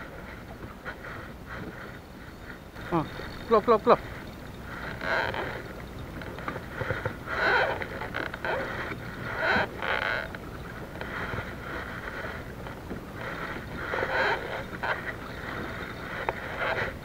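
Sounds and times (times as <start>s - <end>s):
water slapping against hull: 0.0s - 17.0s
wind on microphone: 0.0s - 17.0s.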